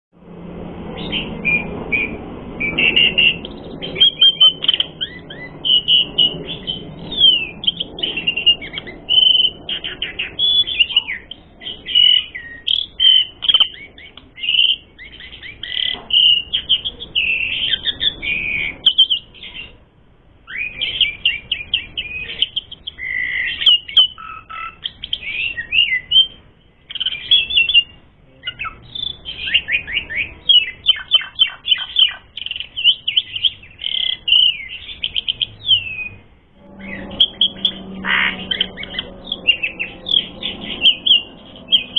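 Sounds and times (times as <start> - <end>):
starling singing chirps and whistles: 1.0 - 19.8, 20.5 - 41.9.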